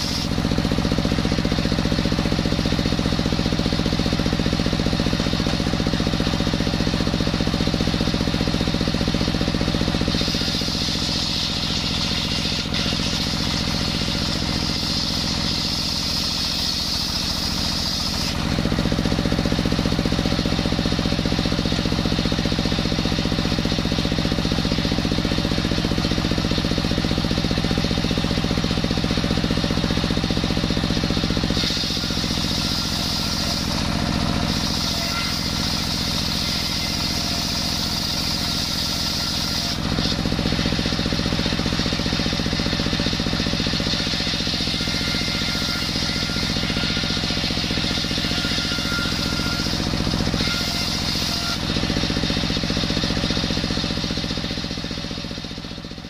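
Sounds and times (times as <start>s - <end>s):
table saw cutting wood: 0.0s - 55.3s
diesel engine running: 0.0s - 56.0s.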